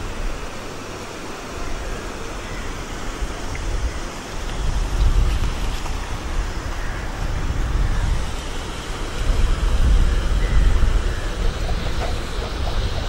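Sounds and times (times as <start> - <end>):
river water rushing over weir: 0.0 - 13.0
wind buffeting microphone: 1.7 - 13.0.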